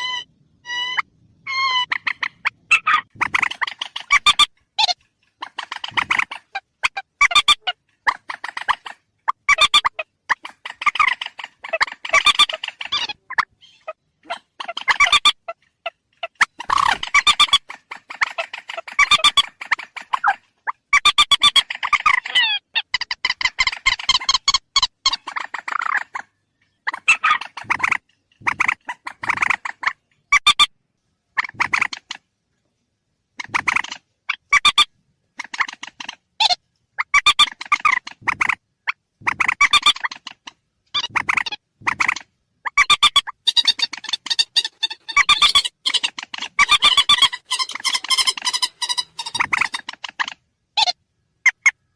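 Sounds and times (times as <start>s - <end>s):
bird call clucking notes: 0.0s - 30.7s, 33.4s - 51.9s.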